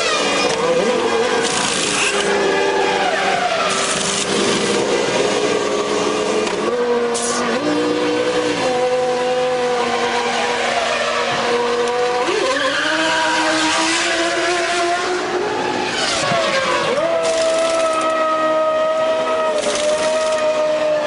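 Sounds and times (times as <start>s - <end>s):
racing car engines running: 0.0s - 21.0s.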